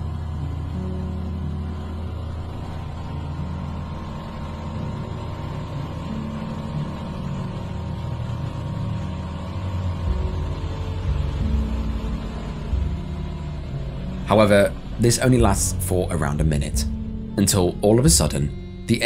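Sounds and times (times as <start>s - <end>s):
aircraft engine and propeller droning: 0.0s - 19.0s.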